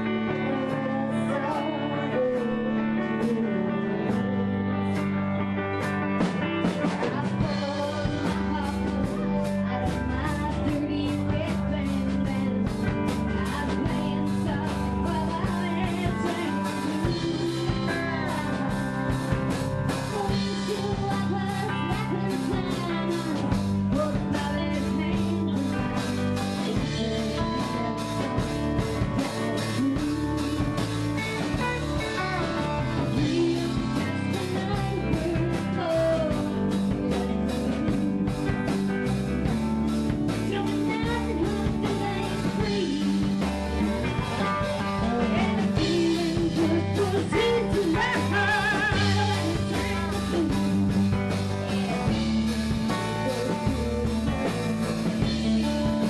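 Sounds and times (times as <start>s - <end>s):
bass guitar: 0.0s - 56.0s
drums: 0.0s - 56.0s
electric guitar: 0.0s - 56.0s
person singing: 0.0s - 56.0s.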